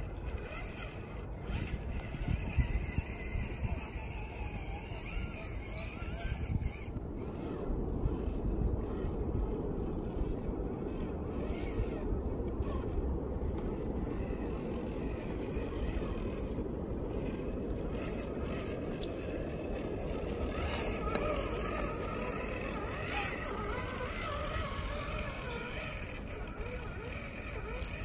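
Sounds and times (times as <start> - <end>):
tires crunching over stones: 0.0 - 28.0
wind rumble on microphone: 0.0 - 28.0.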